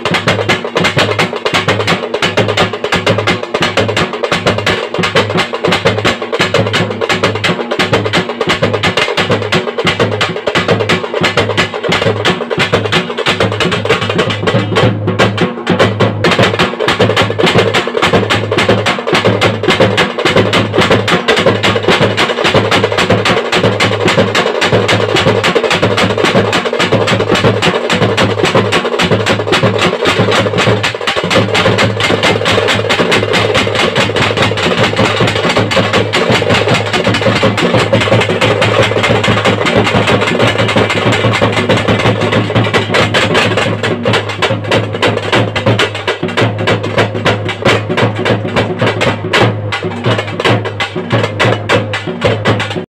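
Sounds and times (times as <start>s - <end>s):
bass drum beats: 0.0s - 52.9s
sticks on small hand drums: 0.0s - 52.9s.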